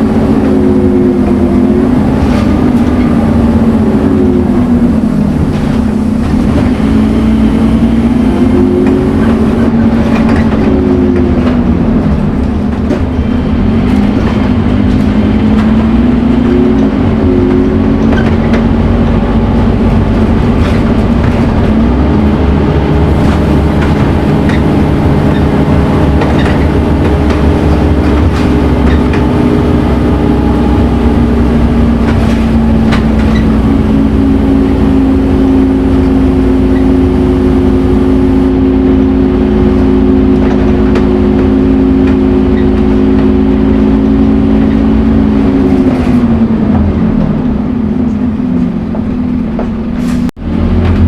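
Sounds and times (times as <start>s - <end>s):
bus diesel engine revving: 0.0s - 51.0s
engine whine: 0.0s - 51.0s.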